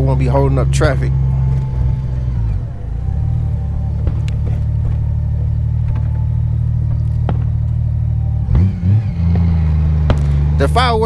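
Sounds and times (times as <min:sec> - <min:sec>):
motorcycle engine humming: 0:00.0 - 0:11.0.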